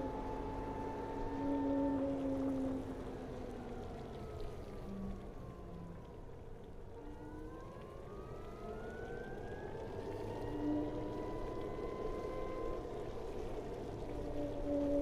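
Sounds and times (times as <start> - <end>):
electric scooter drive whine: 0.0 - 15.0.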